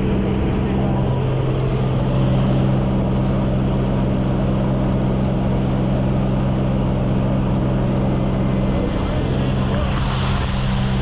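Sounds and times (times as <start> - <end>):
propeller engine droning: 0.0 - 11.0.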